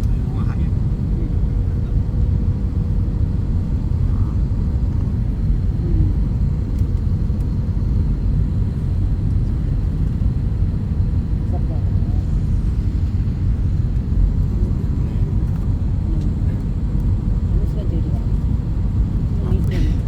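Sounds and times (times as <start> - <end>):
airliner engine rumble in cabin: 0.0 - 20.0.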